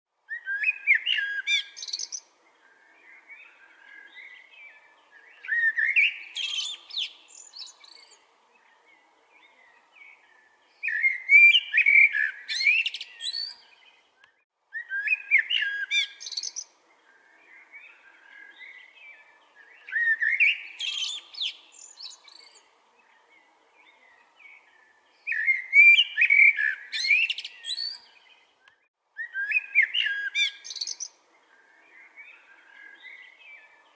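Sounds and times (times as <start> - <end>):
bird singing: 0.3 - 33.9
soft bird twittering: 0.3 - 33.9.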